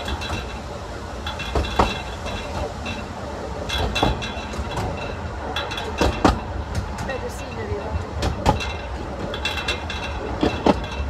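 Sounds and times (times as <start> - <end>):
sharp metallic clanks: 0.0 - 11.0
train wheels rumbling on rails: 0.0 - 11.0.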